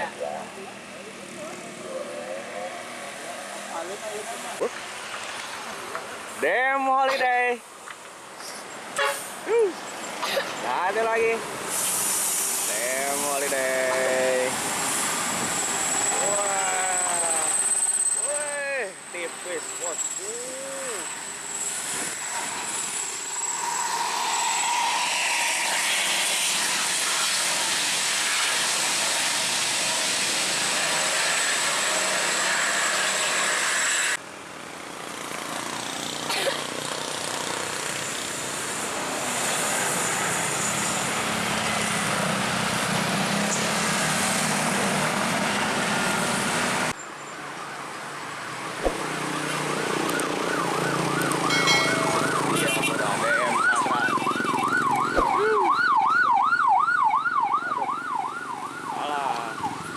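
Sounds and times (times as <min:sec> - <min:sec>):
buses passing on road: 0:00.0 - 0:59.9.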